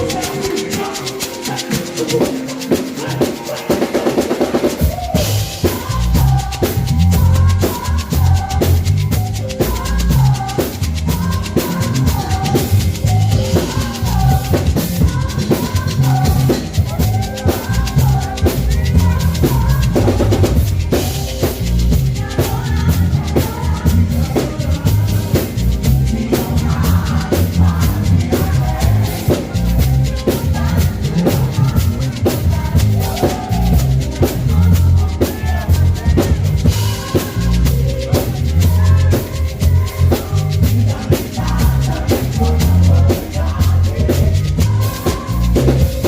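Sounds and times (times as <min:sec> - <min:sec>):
song with drums and bass: 0:00.0 - 0:46.0.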